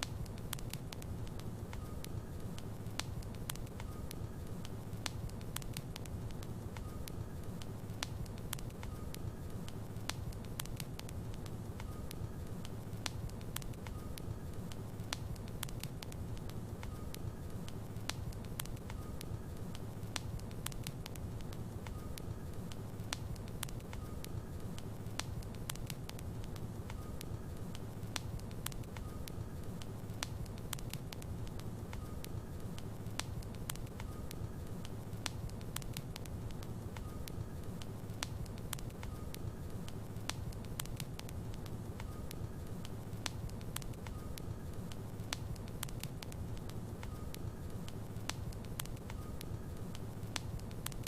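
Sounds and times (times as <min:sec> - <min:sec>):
logs crackling in fireplace: 0:00.0 - 0:51.0
low rumble of flames: 0:00.0 - 0:51.0.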